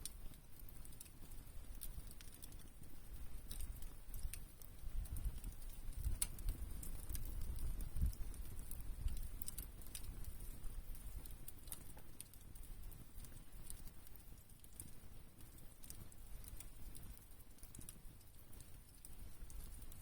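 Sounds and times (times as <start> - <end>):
low fire rumble: 0.0 - 20.0
wood fire crackling and popping: 0.0 - 20.0.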